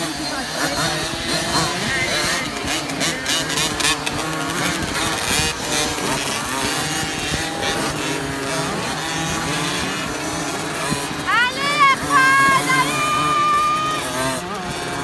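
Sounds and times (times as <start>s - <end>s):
small motocross engines revving: 0.0s - 15.0s.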